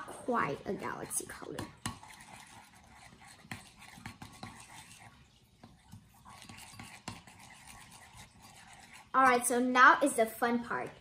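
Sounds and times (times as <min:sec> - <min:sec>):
wet scraping of stirred slime: 0:00.0 - 0:11.0.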